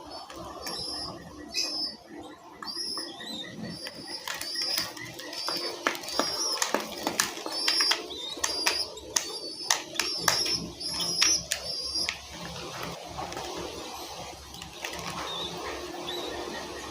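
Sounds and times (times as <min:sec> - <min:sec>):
young bird peeping: 0:00.0 - 0:16.9.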